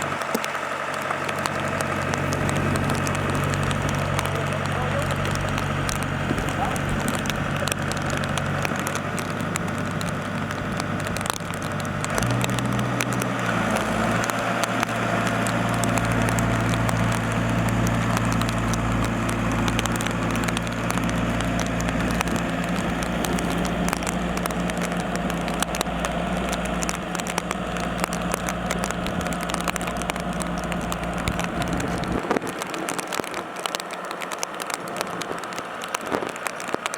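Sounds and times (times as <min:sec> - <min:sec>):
crackling noise: 0:00.0 - 0:36.9
diesel engine running: 0:00.0 - 0:36.9.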